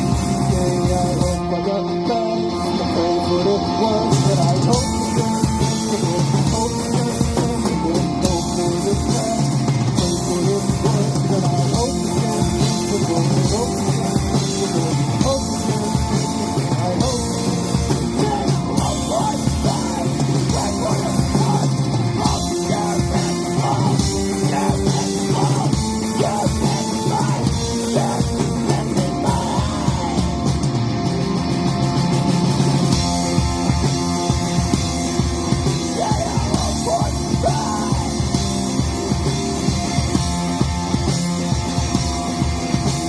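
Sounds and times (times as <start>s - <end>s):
punk rock band playing live: 0.0s - 43.0s.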